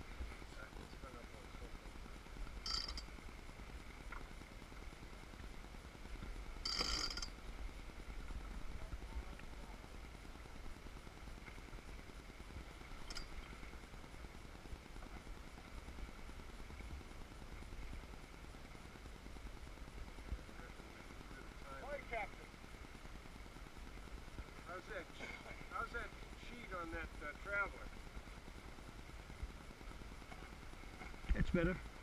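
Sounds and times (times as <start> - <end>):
low rumble of wind and water: 0.0 - 32.0.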